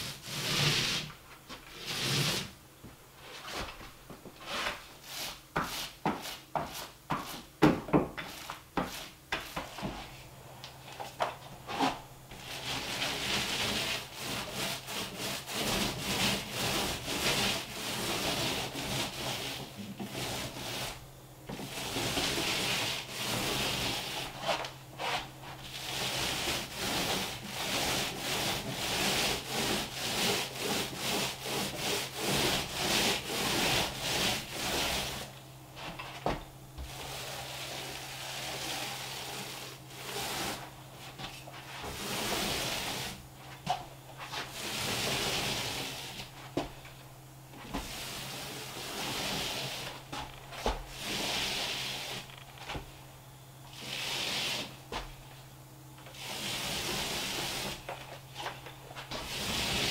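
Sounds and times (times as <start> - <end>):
paint roller swishing on wall: 0.0 - 53.0, 53.6 - 59.9.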